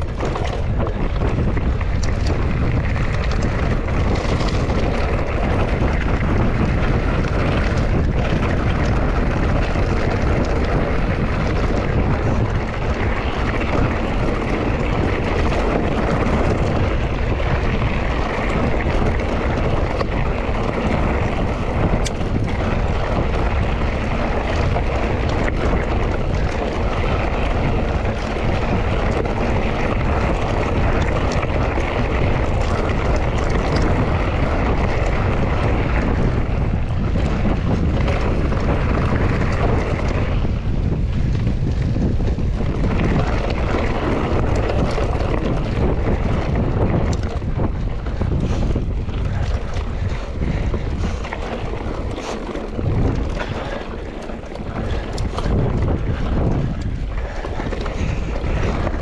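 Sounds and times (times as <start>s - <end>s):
bike tyre noise: 0.0s - 59.0s
stones and bike rattling: 0.0s - 59.0s
wind buffeting microphone: 0.0s - 59.0s.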